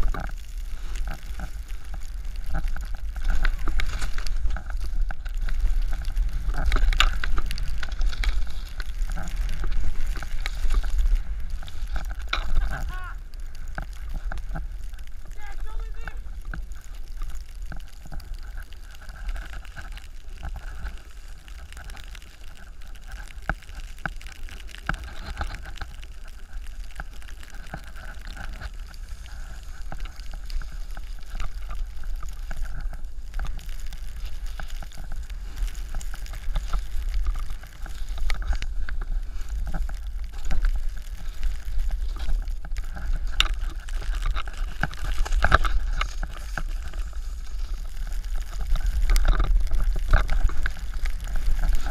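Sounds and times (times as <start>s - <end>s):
snowboard scraping over snow: 0.0s - 51.9s.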